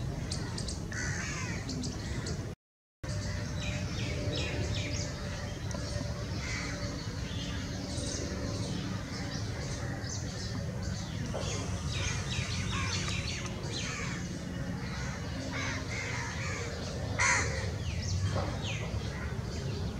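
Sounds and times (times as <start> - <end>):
birds chipping: 0.0 - 19.9
harsh bird calls: 3.1 - 19.9
low steady rumble: 3.1 - 19.9.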